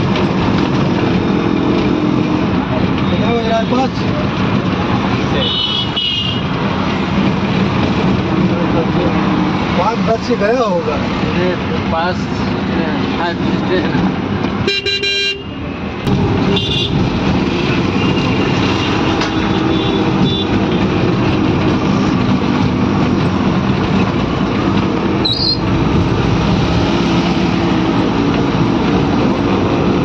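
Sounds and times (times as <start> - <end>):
rickshaw engine drone: 0.0 - 14.7, 15.5 - 30.0
road noise: 0.0 - 30.0.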